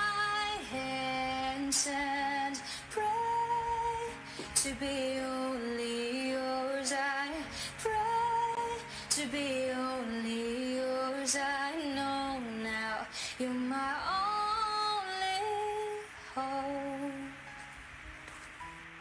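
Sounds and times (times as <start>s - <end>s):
woman singing wordless melody: 0.0s - 17.8s
soft backing music: 0.0s - 19.0s.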